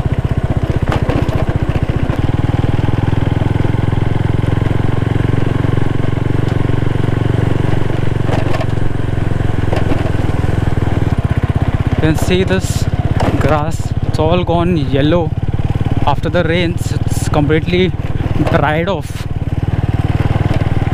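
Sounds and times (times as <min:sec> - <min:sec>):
motorcycle engine running: 0:00.0 - 0:20.9
road noise: 0:00.0 - 0:20.9
wind: 0:00.0 - 0:20.9.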